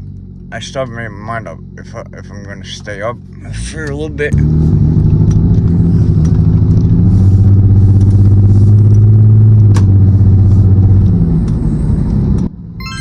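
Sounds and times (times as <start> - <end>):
car engine and exhaust droning: 0.0 - 13.0.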